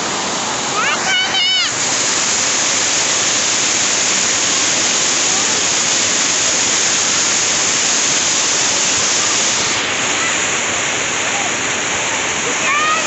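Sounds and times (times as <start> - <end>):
water rushing down a weir: 0.0 - 13.0.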